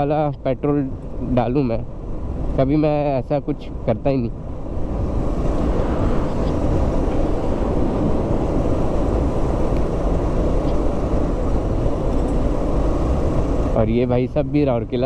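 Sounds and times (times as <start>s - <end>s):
road noise: 0.0s - 15.0s
wind rumble on microphone: 0.0s - 15.0s.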